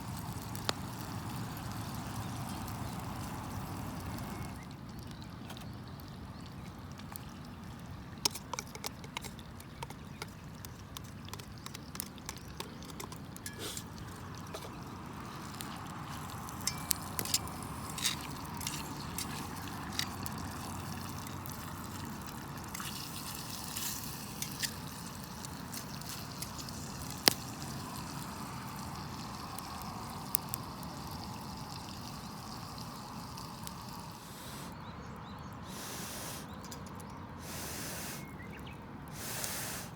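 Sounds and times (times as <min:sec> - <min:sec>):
campfire crackling and popping: 0:00.0 - 0:34.7
food bubbling on fire: 0:00.0 - 0:39.9.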